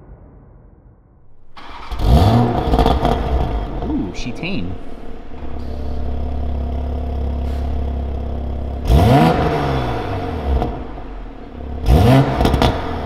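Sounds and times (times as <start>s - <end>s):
car engine idling and revving: 1.3s - 13.0s.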